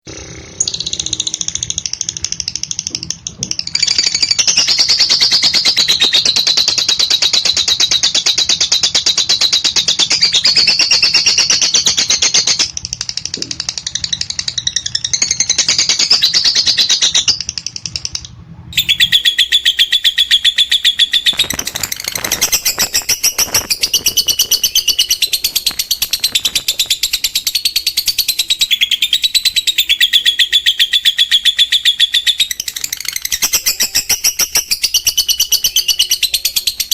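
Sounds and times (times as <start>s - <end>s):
lovebird chattering trill: 0.1s - 36.9s.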